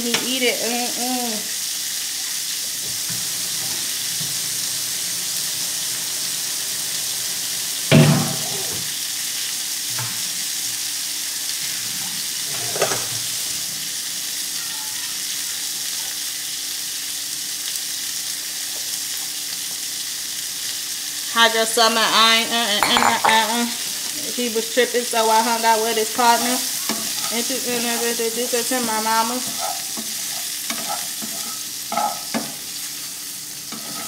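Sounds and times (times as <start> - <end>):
food sizzling in a skillet: 0.0 - 34.0.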